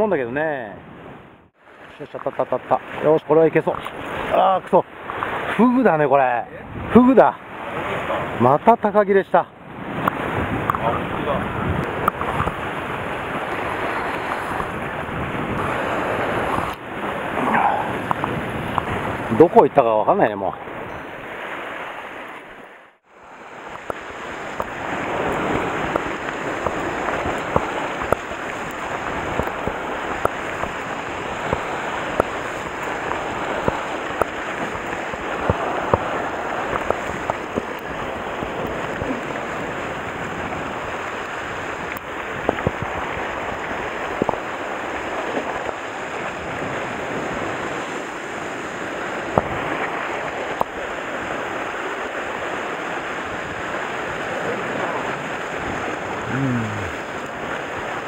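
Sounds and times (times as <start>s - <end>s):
sea waves on rocky shore: 0.0s - 58.0s
wind on microphone: 6.5s - 8.4s, 9.5s - 19.5s, 20.6s - 58.0s.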